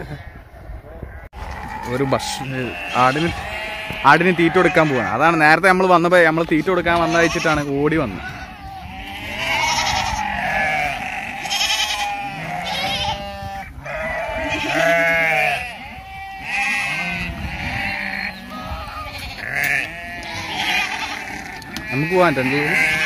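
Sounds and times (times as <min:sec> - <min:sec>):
goats bleating: 0:01.0 - 0:23.0.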